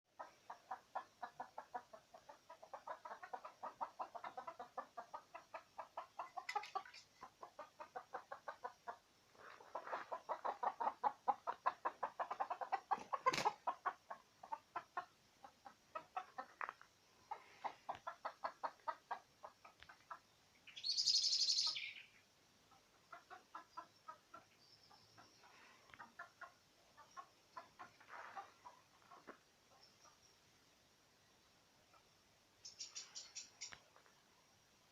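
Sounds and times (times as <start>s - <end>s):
chicken clucking: 0.1s - 30.3s, 31.7s - 34.9s.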